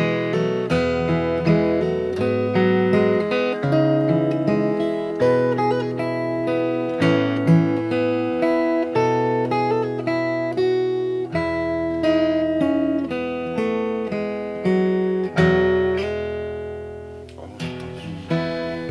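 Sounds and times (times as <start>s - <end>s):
fingerstyle acoustic guitar: 0.0s - 18.9s.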